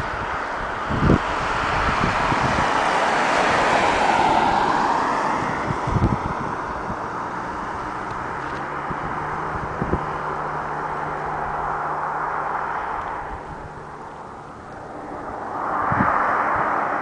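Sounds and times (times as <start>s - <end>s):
vehicle passing: 0.0s - 17.0s
wind buffeting microphone: 0.0s - 17.0s.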